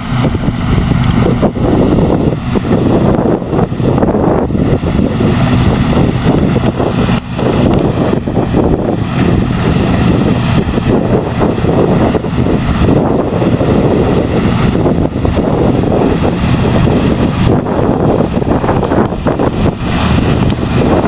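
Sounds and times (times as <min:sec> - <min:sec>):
engine drone: 0:00.0 - 0:21.0
threshing machinery: 0:00.0 - 0:21.0
wind on microphone: 0:00.0 - 0:21.0.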